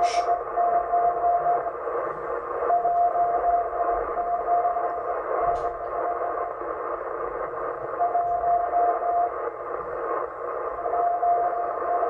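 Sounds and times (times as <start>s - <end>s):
radio band hiss: 0.0s - 12.0s
steady morse tone: 0.0s - 12.0s.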